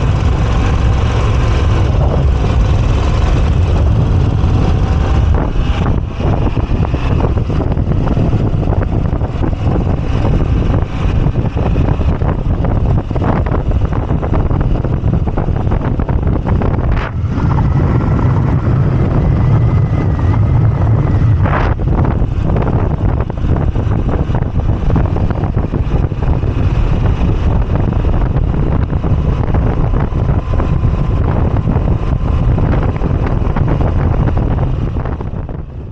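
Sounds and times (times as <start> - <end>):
motorcycle engine running: 0.0 - 35.9
wind rushing over microphone: 0.0 - 35.9.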